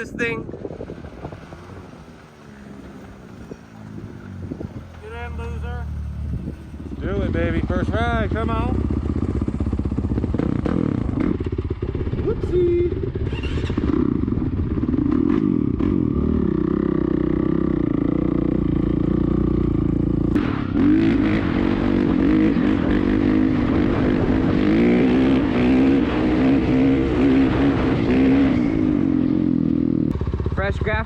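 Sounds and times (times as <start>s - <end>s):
dirt bike engine revving: 0.7s - 31.0s.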